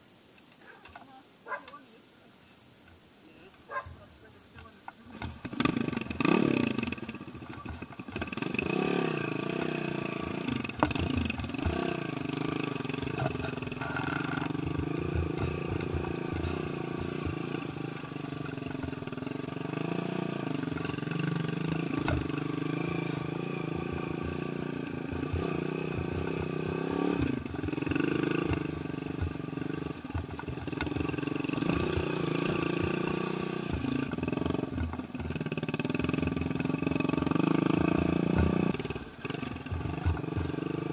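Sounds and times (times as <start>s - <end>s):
small motorcycle engine running: 5.1s - 40.9s.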